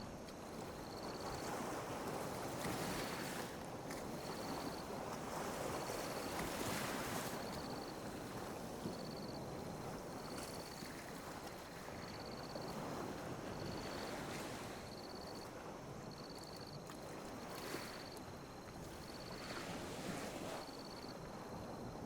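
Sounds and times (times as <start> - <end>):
ocean waves lapping on beach: 0.0 - 22.0.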